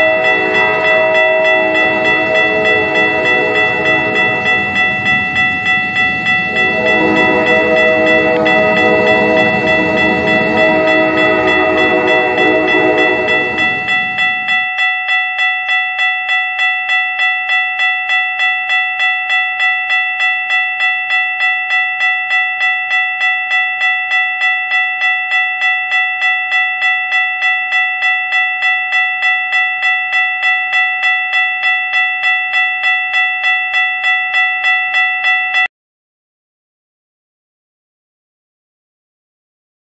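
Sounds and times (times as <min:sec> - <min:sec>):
railroad crossing bell ringing: 0:00.0 - 0:35.7.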